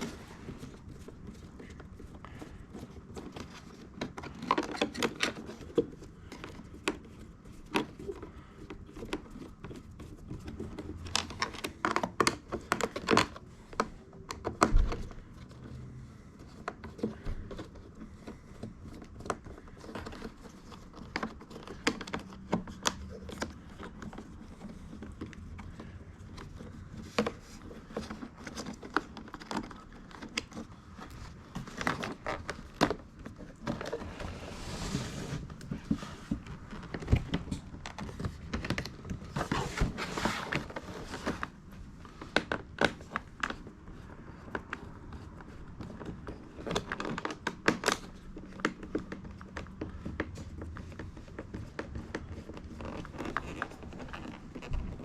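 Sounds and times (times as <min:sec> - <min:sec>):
hands and tools clicking on plastic trim: 0:00.0 - 0:34.2, 0:35.6 - 0:55.0.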